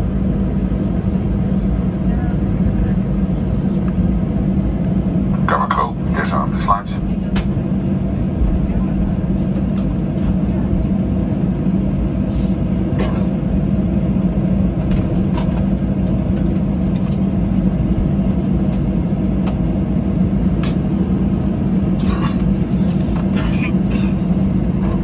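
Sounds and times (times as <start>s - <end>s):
jet engines idling rumble: 0.0s - 25.0s.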